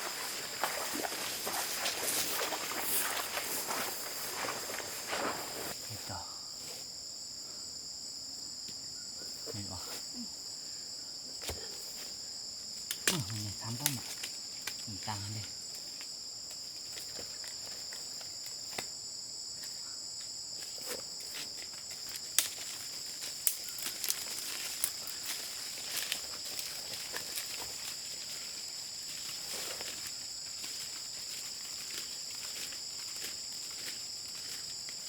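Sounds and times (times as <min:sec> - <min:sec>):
insect chorus buzzing: 0:00.0 - 0:35.0.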